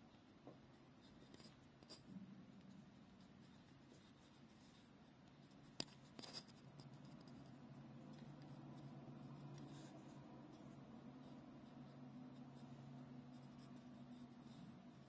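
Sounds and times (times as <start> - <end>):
low steady hum: 0.0 - 15.0
faint scratch: 1.0 - 15.0.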